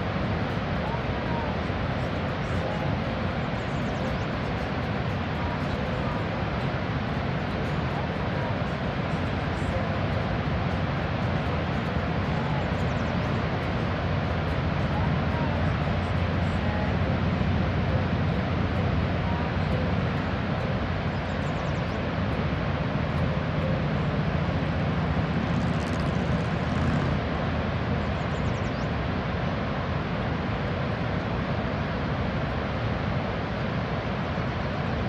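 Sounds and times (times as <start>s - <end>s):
distant waterfall roar: 0.0s - 35.0s.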